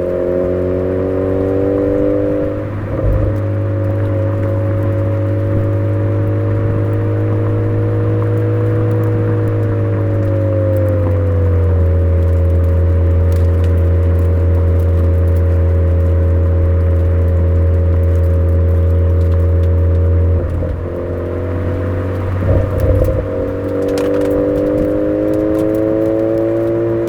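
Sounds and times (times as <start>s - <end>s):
car engine steady drone: 0.0s - 27.0s.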